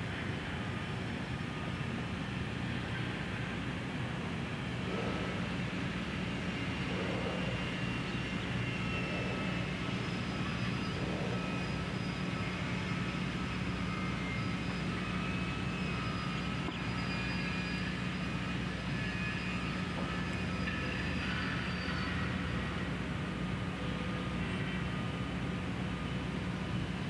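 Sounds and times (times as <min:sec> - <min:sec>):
faint thin whining tones: 0:00.0 - 0:27.0
low mechanical drone: 0:00.0 - 0:27.0.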